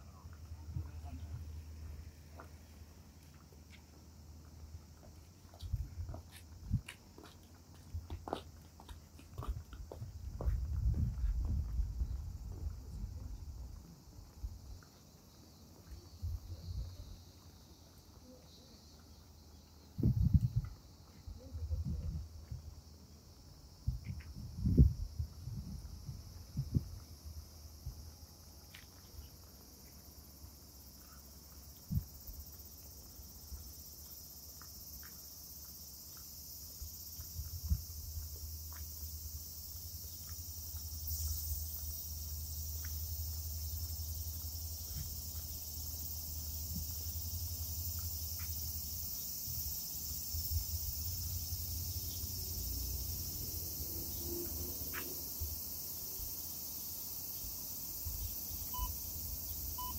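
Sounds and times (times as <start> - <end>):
cicadas singing: 0.0 - 59.9.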